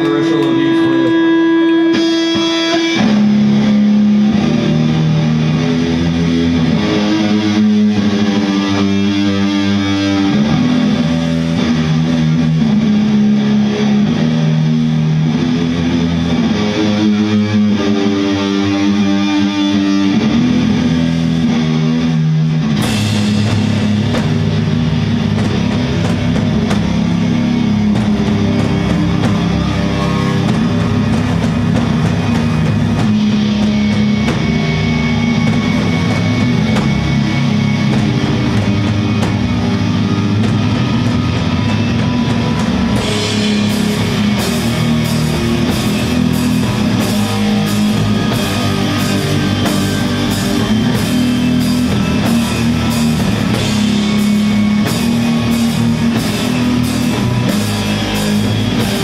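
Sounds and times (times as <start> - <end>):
distorted electric guitar riff: 0.0 - 59.0
metal band playing: 0.0 - 59.0.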